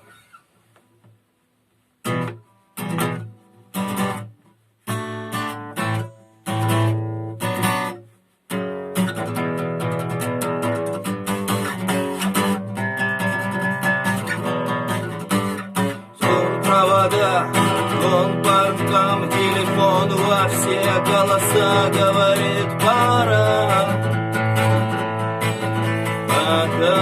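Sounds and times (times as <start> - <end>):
acoustic guitar strumming: 2.0 - 27.0.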